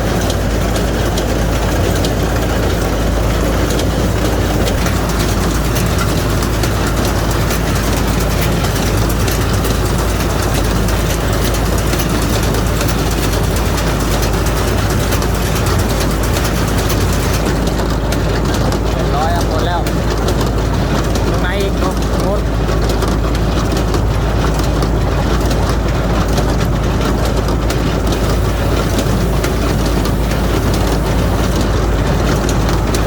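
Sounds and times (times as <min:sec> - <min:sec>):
baler mechanical clatter: 0:00.0 - 0:33.0
tractor engine: 0:00.0 - 0:33.0.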